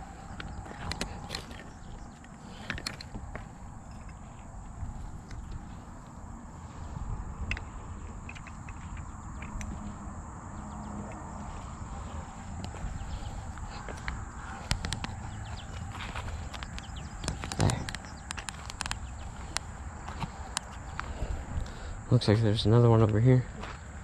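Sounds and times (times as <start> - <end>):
low rumble: 0.0 - 22.8
high insect drone: 0.0 - 24.0.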